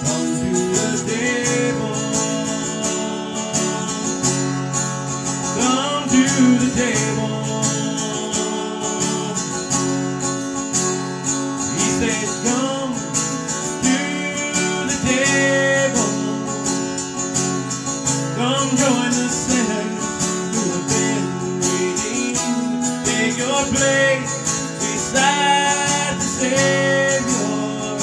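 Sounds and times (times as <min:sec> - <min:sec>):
man singing: 0:00.0 - 0:10.4, 0:11.5 - 0:28.0
acoustic guitar strumming: 0:00.0 - 0:28.0.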